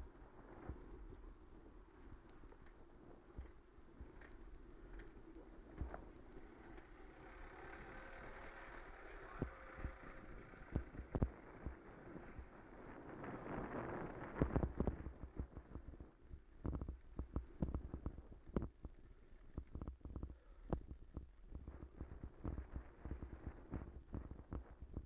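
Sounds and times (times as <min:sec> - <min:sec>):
bicycle rattling over cobbles: 0:00.1 - 0:24.1.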